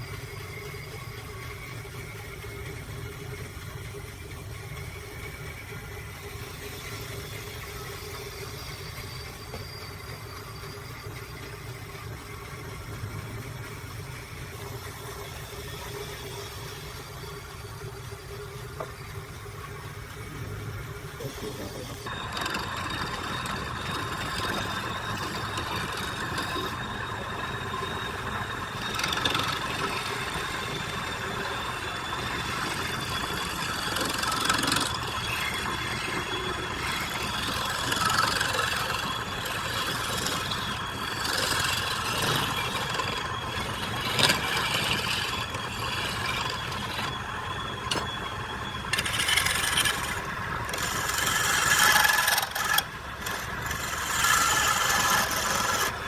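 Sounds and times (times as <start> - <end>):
wood lathe whining: 0.0 - 56.0.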